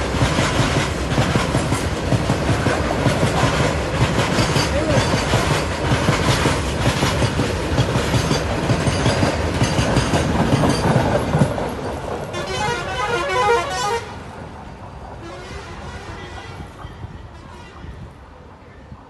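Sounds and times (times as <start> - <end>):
train wheels clattering on rails: 0.0 - 17.9.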